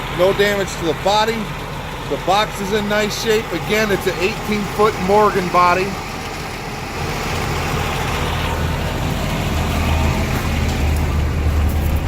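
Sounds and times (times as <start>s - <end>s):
refrigeration unit engine droning: 0.0s - 12.0s.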